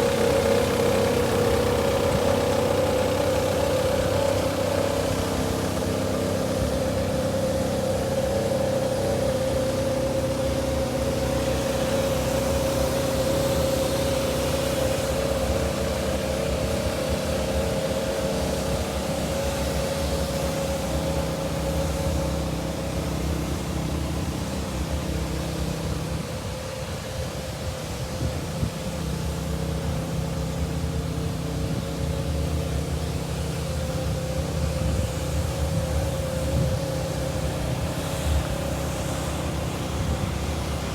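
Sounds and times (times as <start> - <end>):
constant whine: 0.0 - 40.9
excavator diesel engine running: 0.0 - 40.9.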